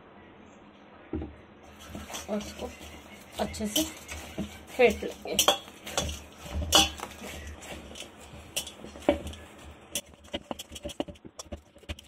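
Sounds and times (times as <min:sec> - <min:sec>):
dough slapping against metal bowl: 0:01.7 - 0:12.0.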